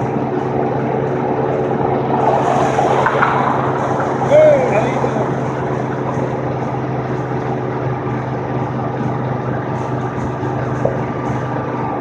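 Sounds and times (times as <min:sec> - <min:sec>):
constant rushing noise: 0:00.0 - 0:12.0
vehicle engine running: 0:00.0 - 0:12.0.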